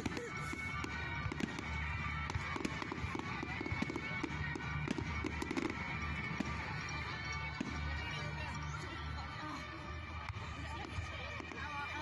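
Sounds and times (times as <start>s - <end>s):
fireworks crackling and popping: 0.0s - 12.0s
music: 0.0s - 12.0s.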